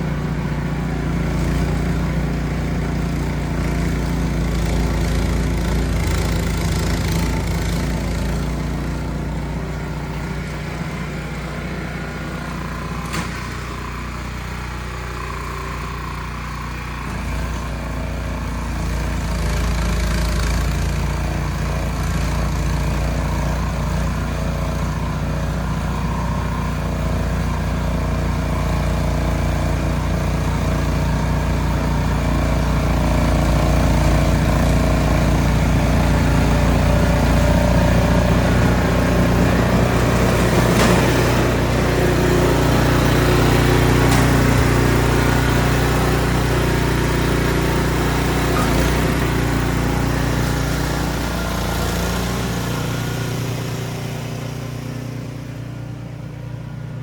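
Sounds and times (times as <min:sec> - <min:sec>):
snow blower engine running: 0:00.0 - 0:57.0.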